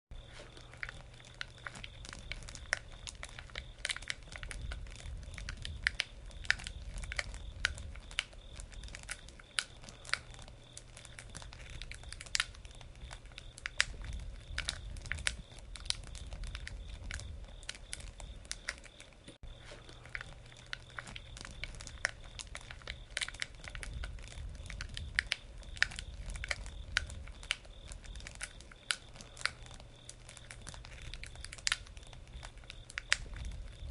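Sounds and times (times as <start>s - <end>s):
low rumble of flames: 0.1s - 33.9s
campfire crackling and popping: 0.2s - 33.9s.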